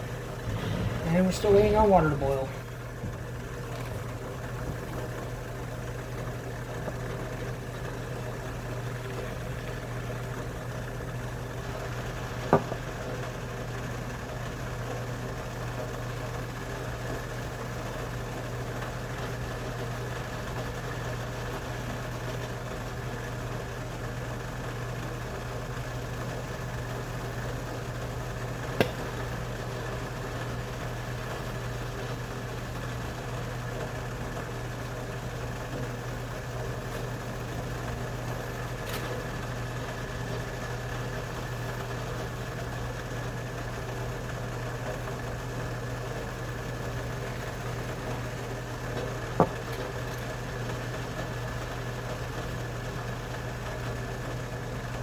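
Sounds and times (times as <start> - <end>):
low mechanical hum with tones: 0.0 - 55.0.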